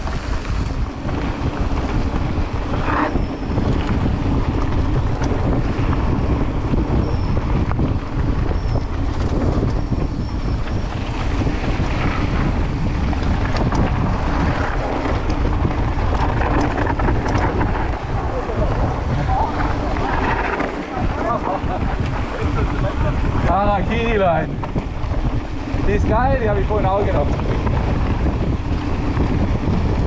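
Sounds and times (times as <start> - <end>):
bike rumbling on dirt trail: 0.0 - 30.0
wind buffeting microphone: 0.0 - 30.0.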